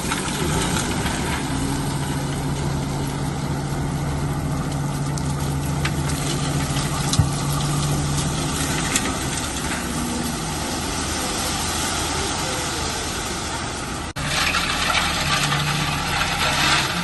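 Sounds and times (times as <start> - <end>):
diesel engine idling low: 0.0 - 17.0.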